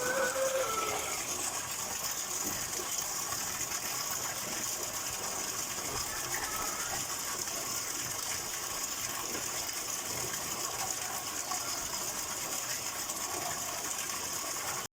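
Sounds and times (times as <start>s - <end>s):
water rushing: 0.0s - 14.9s.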